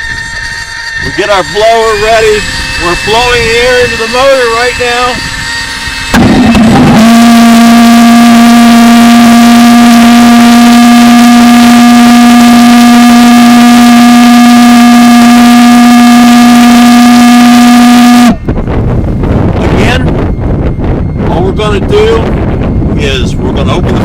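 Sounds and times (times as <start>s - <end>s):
pulse jet engine drone: 0.0s - 24.0s.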